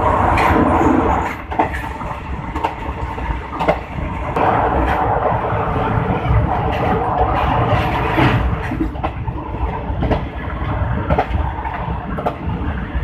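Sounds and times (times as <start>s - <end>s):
train wheels rumbling on rails: 0.0s - 13.0s
wheels clicking on rail joints: 0.3s - 13.0s.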